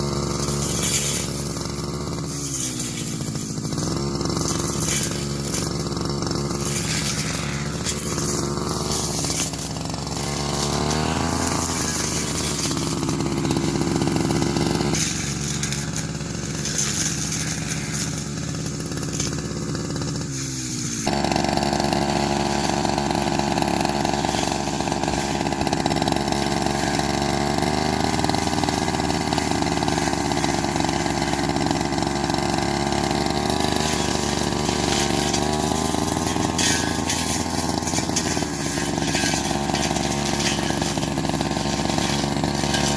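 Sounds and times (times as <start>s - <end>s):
grass cutter petrol engine: 0.0s - 42.9s.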